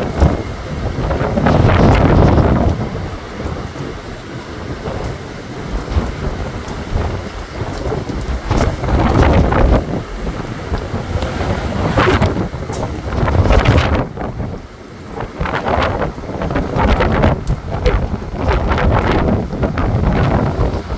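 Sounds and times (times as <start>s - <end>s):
gusty wind buffeting microphone: 0.0s - 20.9s.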